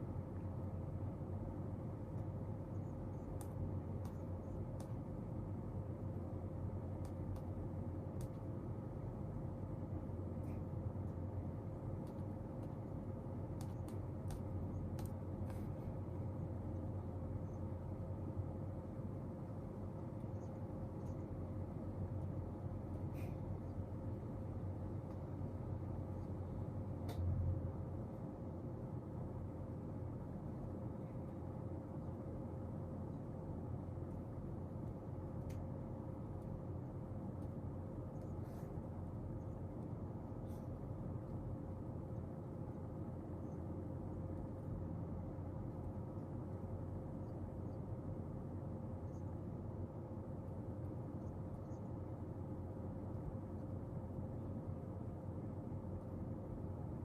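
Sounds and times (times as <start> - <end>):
faint steady tone: 0.0 - 57.0
low room hum: 0.0 - 57.0.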